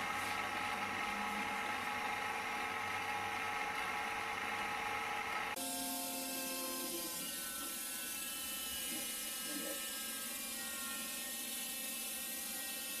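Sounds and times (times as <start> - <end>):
small motor spinning propeller: 0.0 - 13.0.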